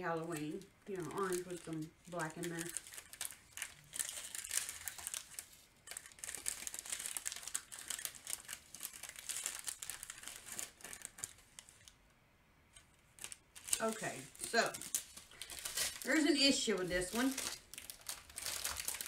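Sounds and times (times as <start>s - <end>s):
plastic bags crinkling: 0.0s - 12.0s, 12.8s - 19.0s.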